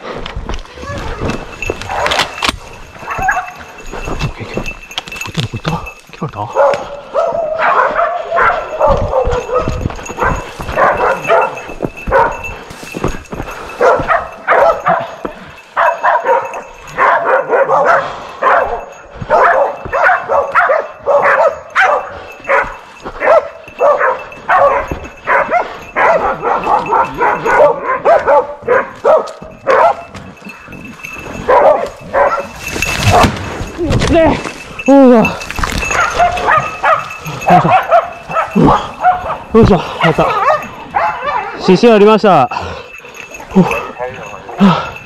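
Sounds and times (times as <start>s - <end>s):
hunting dogs barking: 1.6s - 4.6s, 5.8s - 33.8s, 34.6s - 45.0s.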